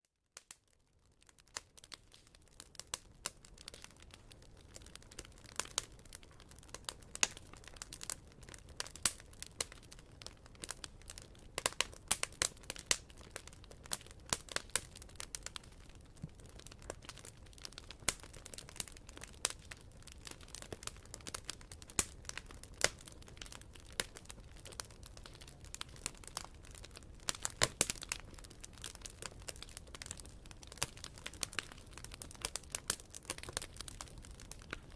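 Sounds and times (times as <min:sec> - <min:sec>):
campfire crackling and popping: 0:00.4 - 0:34.9
low rumble of burning fire: 0:00.4 - 0:34.9.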